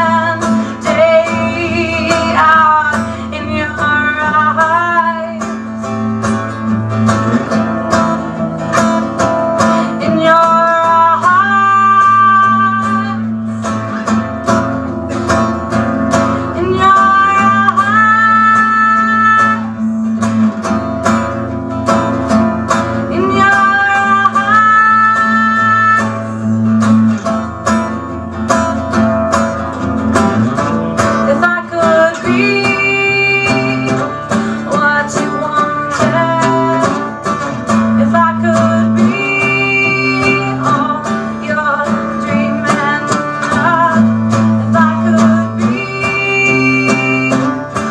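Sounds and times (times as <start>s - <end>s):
acoustic guitar strumming: 0.0s - 47.9s.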